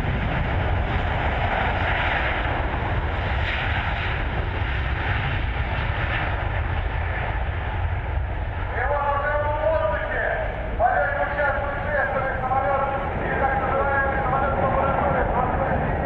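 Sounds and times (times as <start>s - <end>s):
jet airliner flying past: 0.0s - 16.0s.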